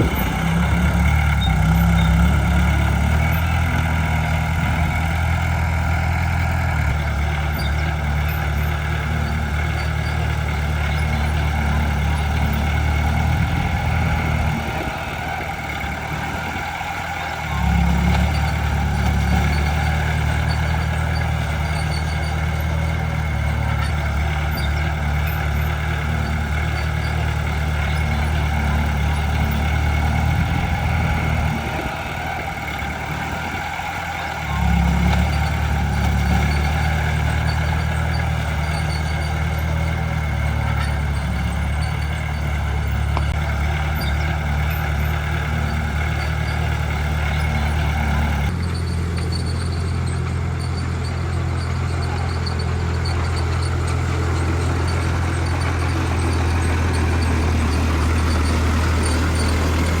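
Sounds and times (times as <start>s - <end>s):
heavy diesel engine under load: 0.0s - 60.0s.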